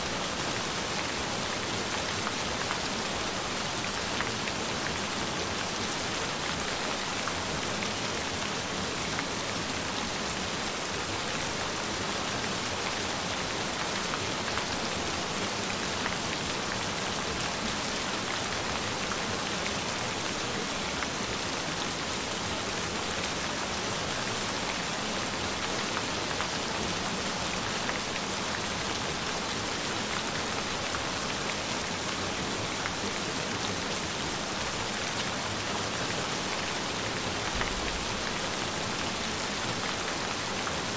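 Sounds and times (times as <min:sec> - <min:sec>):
gentle rain with patter of drops: 0:00.0 - 0:40.9.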